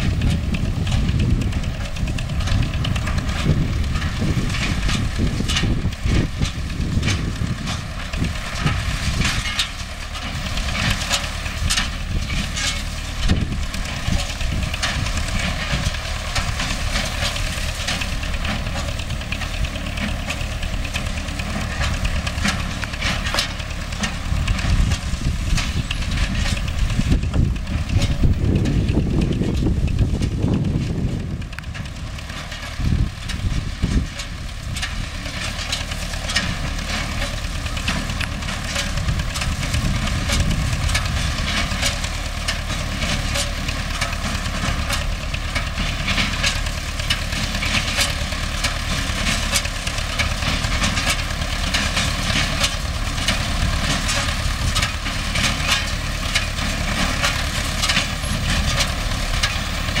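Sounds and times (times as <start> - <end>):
baler clicking and clattering: 0.0 - 60.0
tractor diesel engine running: 0.0 - 60.0.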